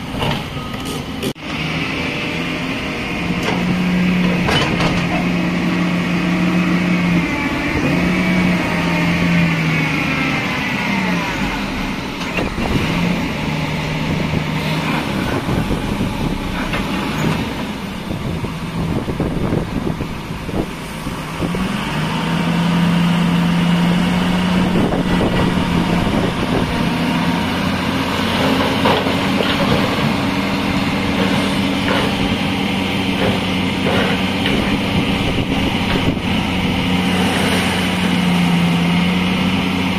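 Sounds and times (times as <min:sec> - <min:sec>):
excavator diesel engine working: 0:00.0 - 0:39.9.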